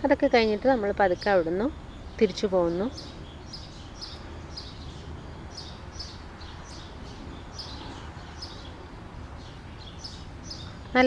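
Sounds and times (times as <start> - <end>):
bird chirping: 0.0 - 11.0
low outdoor background noise: 0.0 - 11.0.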